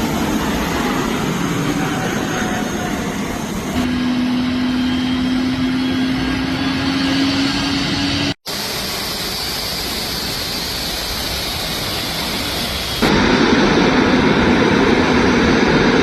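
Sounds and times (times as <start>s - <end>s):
light aircraft engine rush: 0.0s - 16.0s.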